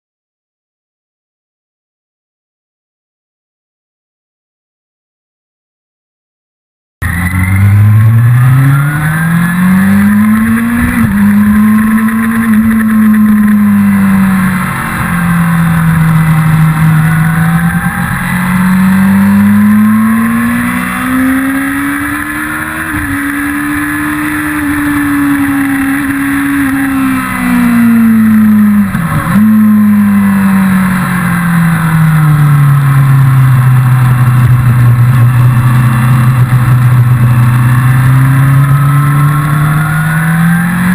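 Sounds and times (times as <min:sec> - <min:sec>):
motorcycle engine at racing revs: 0:07.0 - 0:40.9.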